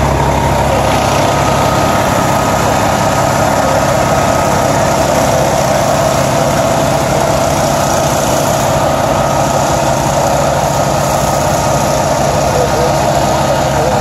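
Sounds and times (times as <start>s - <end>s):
diesel engine running: 0.0s - 14.0s
pump whine: 0.0s - 14.0s.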